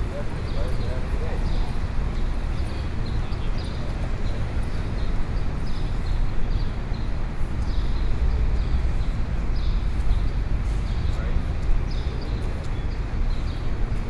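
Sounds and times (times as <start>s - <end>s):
birds chirping: 0.0s - 14.0s
low rumble of traffic: 0.0s - 14.0s.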